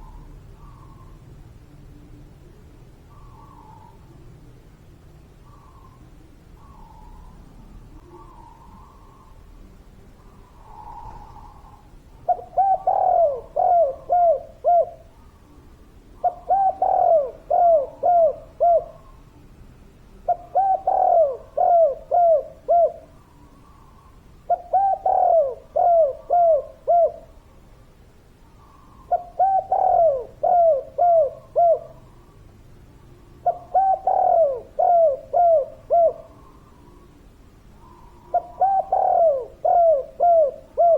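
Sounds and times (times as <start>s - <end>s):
dove cooing: 0.0s - 1.4s, 2.5s - 4.2s, 5.4s - 19.3s, 20.1s - 27.6s, 28.6s - 32.5s, 33.1s - 40.9s.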